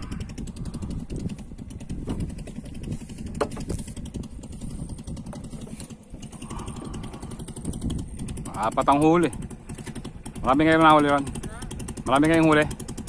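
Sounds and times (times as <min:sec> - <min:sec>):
small boat engine puttering: 0:00.0 - 0:13.0.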